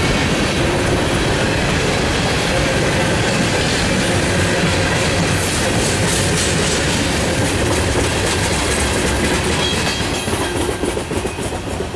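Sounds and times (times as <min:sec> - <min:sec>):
steel wheels rumbling on rail: 0:00.0 - 0:11.9.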